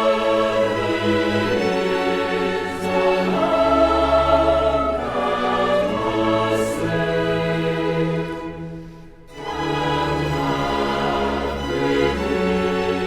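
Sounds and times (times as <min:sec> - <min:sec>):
orchestra and choir sustained chords: 0:00.0 - 0:13.0.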